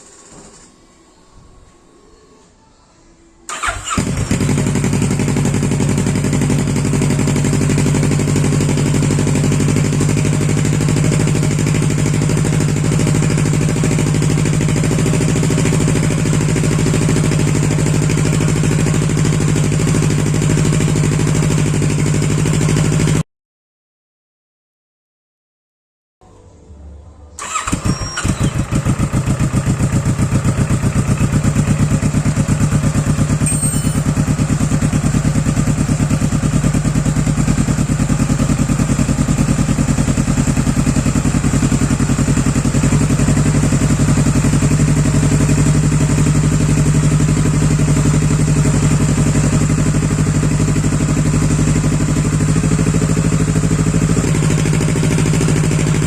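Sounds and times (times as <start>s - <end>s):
motorcycle engine starting and idling: 3.5s - 23.2s, 27.4s - 56.0s.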